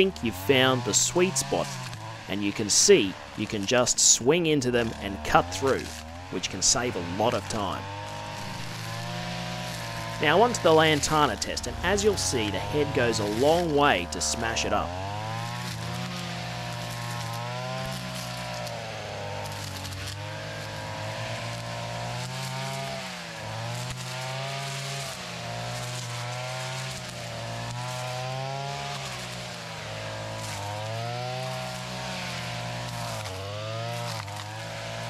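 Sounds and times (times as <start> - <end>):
brush cutter engine running: 0.0 - 35.0.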